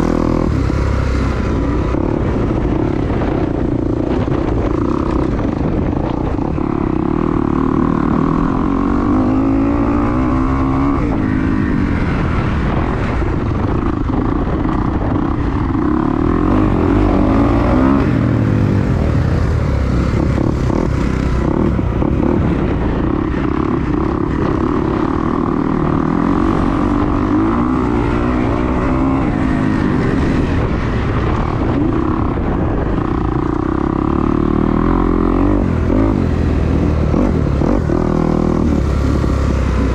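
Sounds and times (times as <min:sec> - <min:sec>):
motorcycle engine revving: 0:00.0 - 0:39.9
wind buffeting microphone: 0:00.0 - 0:39.9.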